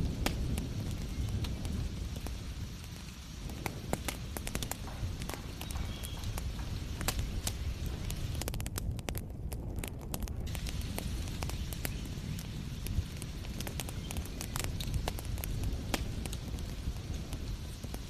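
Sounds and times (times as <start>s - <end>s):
rain hissing: 0.0s - 18.0s
wood fire crackling and popping: 0.0s - 18.0s.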